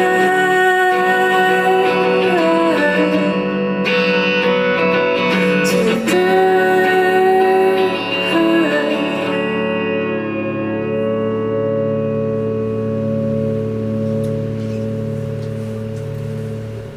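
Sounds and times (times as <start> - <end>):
electric guitars: 0.0 - 16.9.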